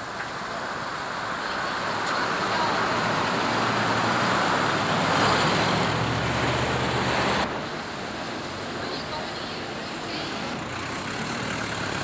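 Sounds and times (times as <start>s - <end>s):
low engine hum: 0.0s - 12.0s
passing road vehicle rushing: 0.0s - 12.0s.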